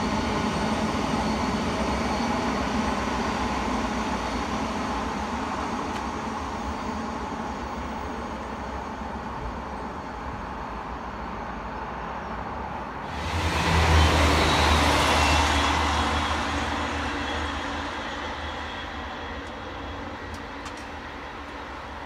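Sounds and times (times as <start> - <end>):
diesel train engine drone: 0.0 - 22.0
train wheel noise: 0.0 - 22.0.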